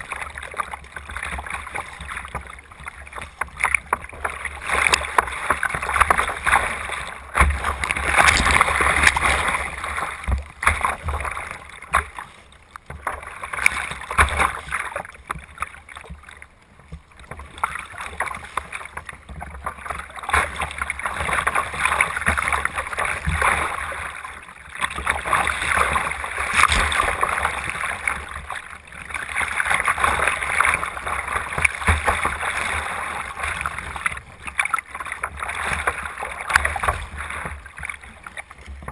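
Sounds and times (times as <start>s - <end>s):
water splashing against kayak: 0.0s - 38.9s.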